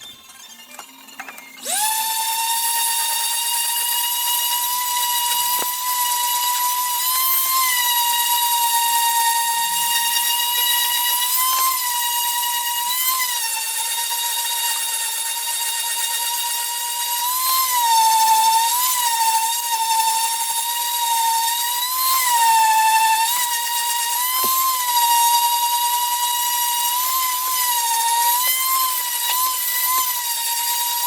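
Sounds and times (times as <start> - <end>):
power tool motor whining: 0.0 - 31.0.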